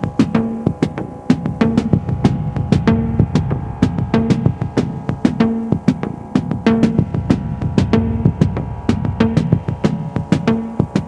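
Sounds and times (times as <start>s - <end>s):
electronic music with drum beat: 0.0s - 11.0s.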